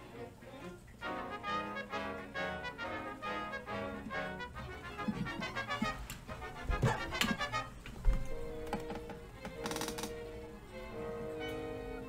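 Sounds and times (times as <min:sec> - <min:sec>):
music playing: 0:00.0 - 0:12.0.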